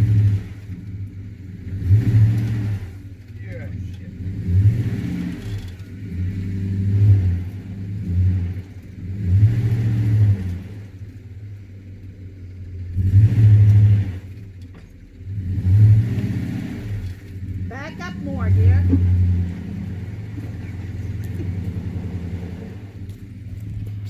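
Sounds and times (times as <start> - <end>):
truck engine revving hard: 0.0 - 0.8, 1.5 - 11.0, 12.9 - 14.4, 15.2 - 24.0.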